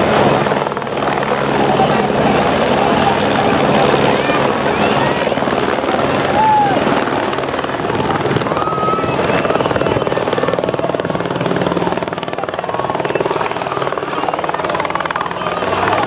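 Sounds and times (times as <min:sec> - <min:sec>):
helicopter rotor chopping: 0:00.0 - 0:16.0.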